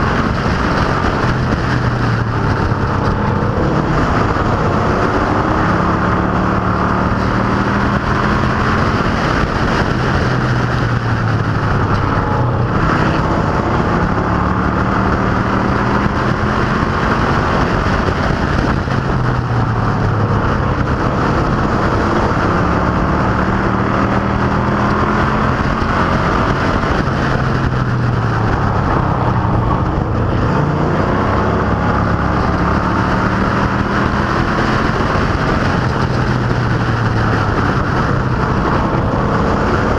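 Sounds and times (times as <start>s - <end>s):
racing engines: 0.0s - 39.9s.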